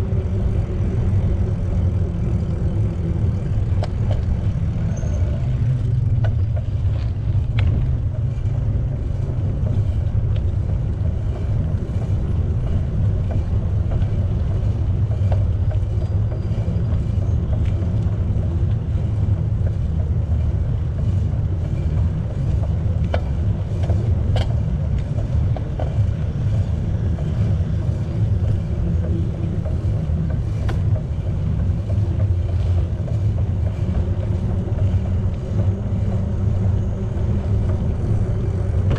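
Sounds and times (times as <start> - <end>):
bicycle tyres on path: 0.0 - 38.9
wind buffeting microphone: 0.0 - 38.9.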